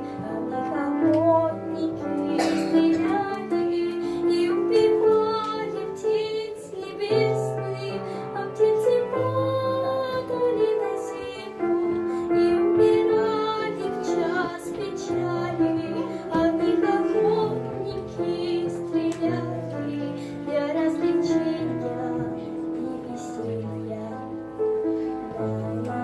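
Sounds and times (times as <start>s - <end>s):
girl singing: 0.0s - 26.0s.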